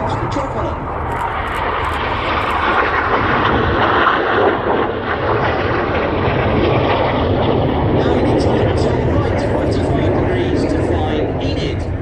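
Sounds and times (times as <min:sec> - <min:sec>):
jets roaring overhead: 0:00.0 - 0:12.0.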